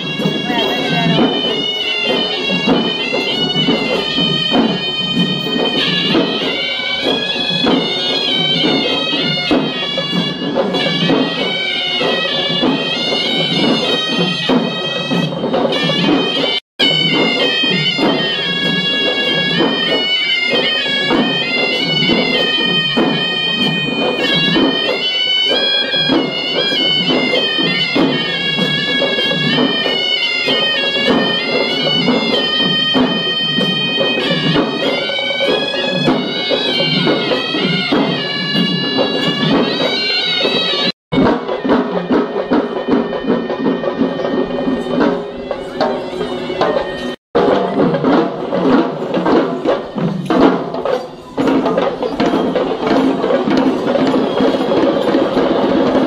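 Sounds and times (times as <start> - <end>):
shrill shawm melody: 0.0 - 56.0
steady drum beat: 0.0 - 56.0.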